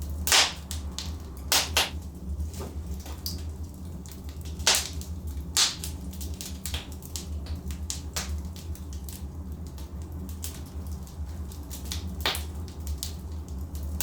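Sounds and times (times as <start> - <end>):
logs crackling in fireplace: 0.0 - 14.0
low fire rumble: 0.0 - 14.0.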